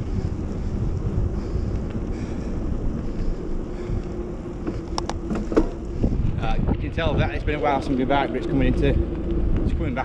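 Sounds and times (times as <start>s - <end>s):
bike tyres rolling on pavement: 0.0s - 10.0s
wind buffeting microphone: 0.0s - 10.0s.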